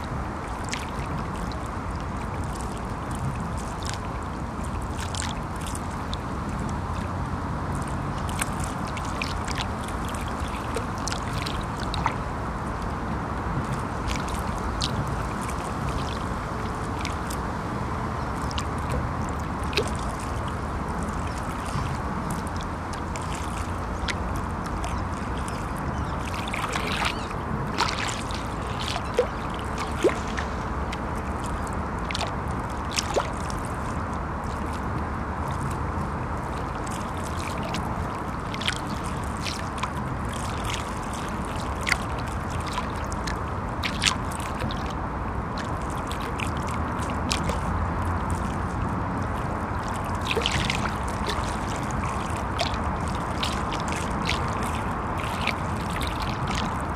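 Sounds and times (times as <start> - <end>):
river water lapping against bank: 0.0 - 56.9
small water splashes: 0.0 - 56.9
traffic rumble on bridge: 0.0 - 56.9.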